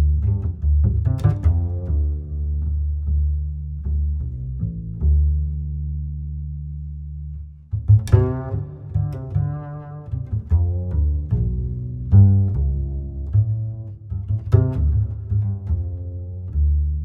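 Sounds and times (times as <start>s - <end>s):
plucked and bowed notes: 0.0s - 17.0s.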